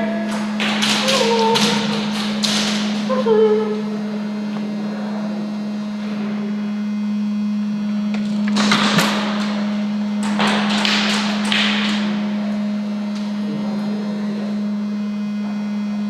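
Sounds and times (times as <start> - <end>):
small fan buzzing hum: 0.0 - 16.0.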